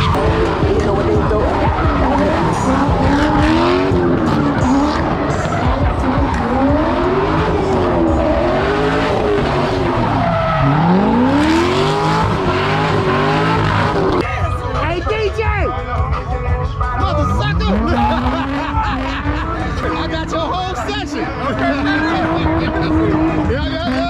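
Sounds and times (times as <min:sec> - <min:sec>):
tires skidding and squealing: 0:00.0 - 0:14.3, 0:16.0 - 0:24.0
car engine revving: 0:00.0 - 0:15.1, 0:15.8 - 0:24.0.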